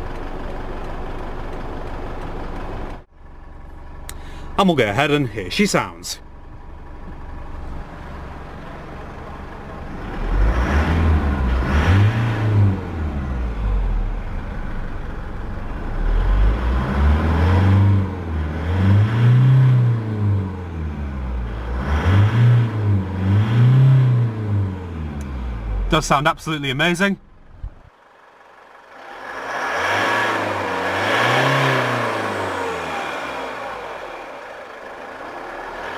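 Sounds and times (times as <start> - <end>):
diesel engine idling and revving: 0.0 - 35.9.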